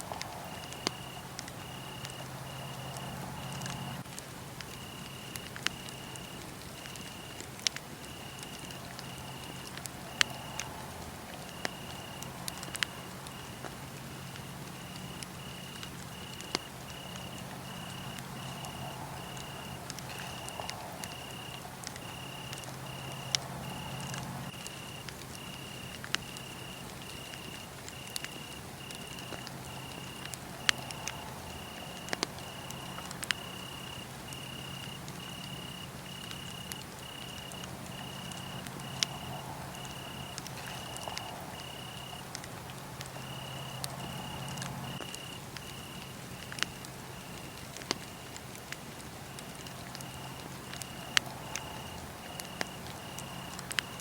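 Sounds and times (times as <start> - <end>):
wood fire crackling: 0.0 - 54.0
cricket chirping: 0.4 - 4.0, 4.8 - 7.4, 8.0 - 48.4, 49.5 - 54.0.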